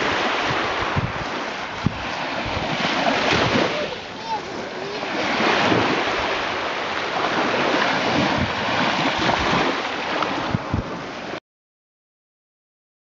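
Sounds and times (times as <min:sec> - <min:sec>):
waves washing on sandy shore: 0:00.0 - 0:11.4
wind on microphone: 0:00.0 - 0:11.4.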